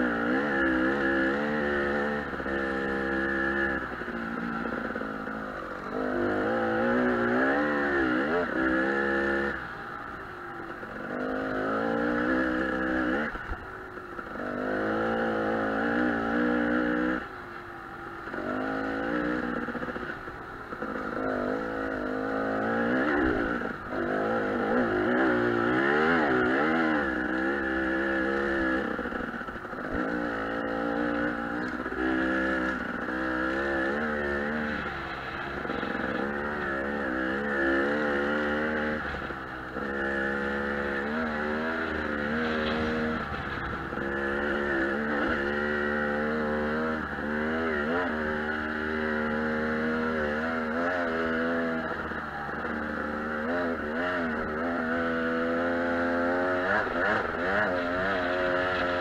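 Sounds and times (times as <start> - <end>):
dirt bike engine revving: 0.0 - 17.4, 18.0 - 59.0.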